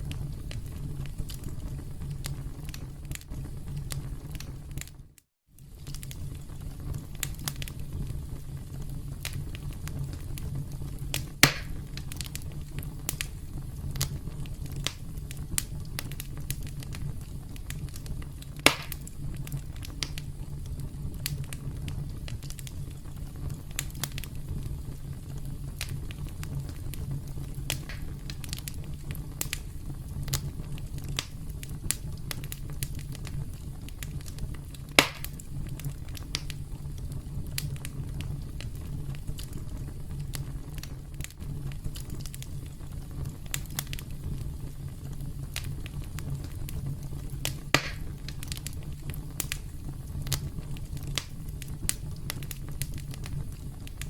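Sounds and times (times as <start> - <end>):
campfire crackling: 0.0 - 54.0
loud pops of fire: 0.0 - 54.0.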